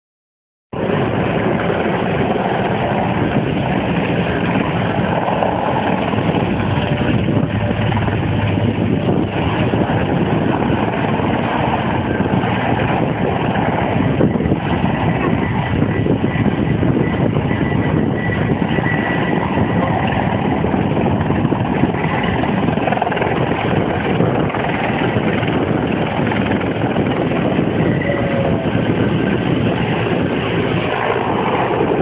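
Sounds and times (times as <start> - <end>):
helicopter engine and rotor: 0.8 - 32.0.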